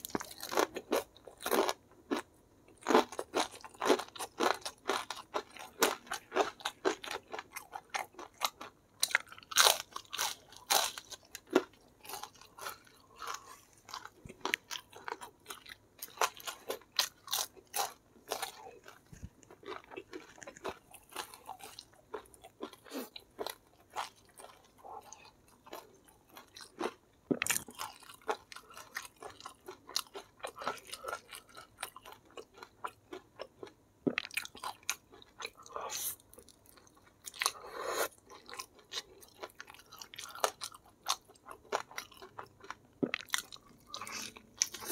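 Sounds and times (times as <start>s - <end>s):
chewing crunchy fried chicken: 0.0s - 44.9s.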